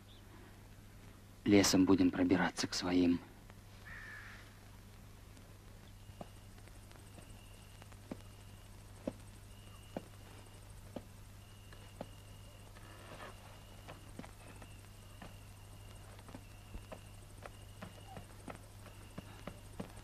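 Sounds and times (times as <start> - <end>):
crickets chirping: 0.0 - 20.0
faint low hum: 0.0 - 20.0
slow footsteps: 3.4 - 20.0.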